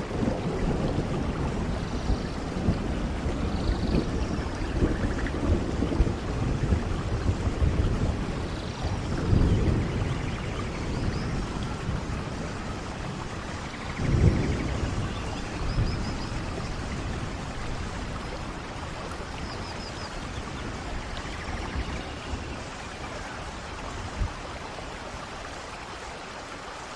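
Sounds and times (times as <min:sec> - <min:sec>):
thunder rumbling: 0:00.0 - 0:25.4
steady rain falling: 0:00.0 - 0:26.9.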